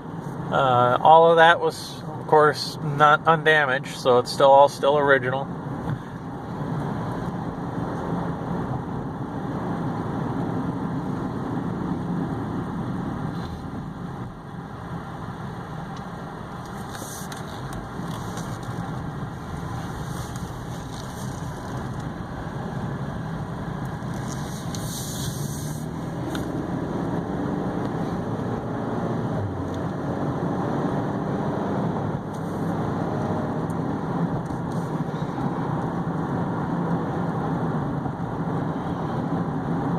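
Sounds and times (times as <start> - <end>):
car engine running: 0.0 - 39.9
tyre and road noise: 0.0 - 39.9.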